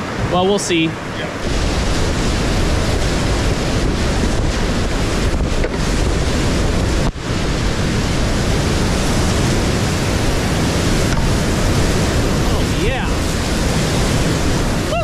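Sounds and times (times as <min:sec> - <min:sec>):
water splashing over boat: 0:00.0 - 0:15.0
whitewater rapid rushing: 0:00.0 - 0:15.0.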